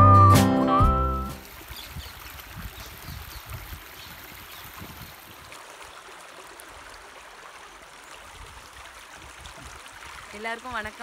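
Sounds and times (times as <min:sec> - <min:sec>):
stream babbling over rocks: 0:01.3 - 0:11.0.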